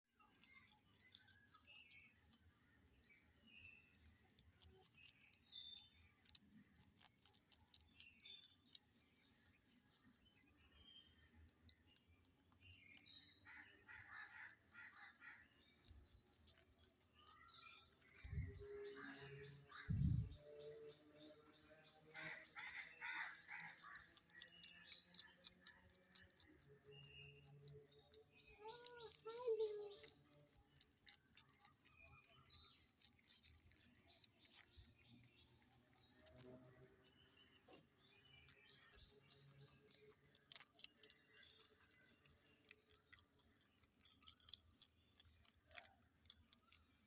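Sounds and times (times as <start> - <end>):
rabbit chewing food: 0.0 - 47.0
birds chirping: 0.1 - 47.0.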